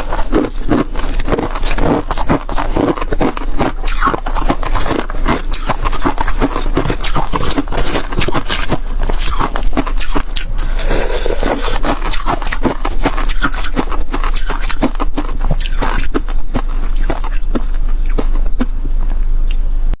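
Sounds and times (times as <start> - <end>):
ice being chewed: 0.0 - 19.6.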